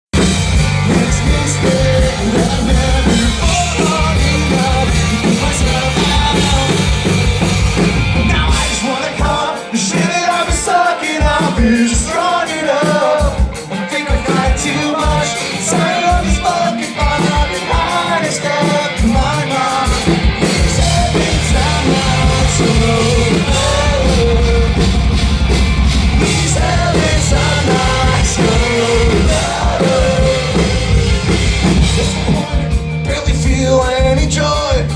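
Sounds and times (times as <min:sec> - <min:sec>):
rock band playing live: 0:00.1 - 0:34.9
person singing: 0:00.2 - 0:34.9.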